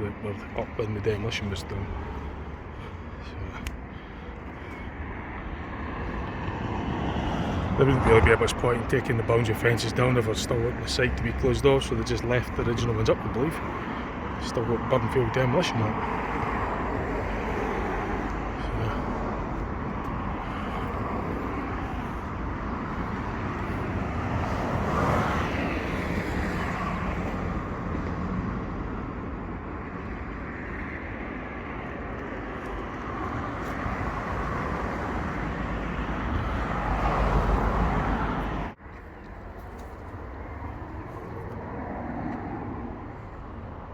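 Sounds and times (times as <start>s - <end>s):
road traffic noise: 0.0s - 43.9s
vehicles passing: 0.0s - 43.9s.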